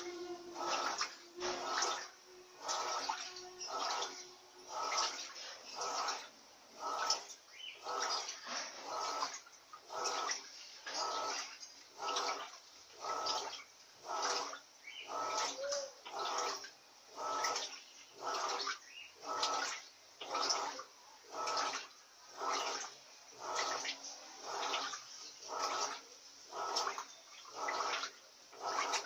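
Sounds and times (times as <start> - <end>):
washing machine water swishing: 0.0 - 29.0.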